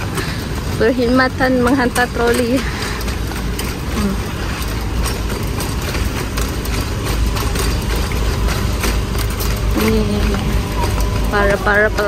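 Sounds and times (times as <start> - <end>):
luggage trolley rattling: 0.0 - 12.0.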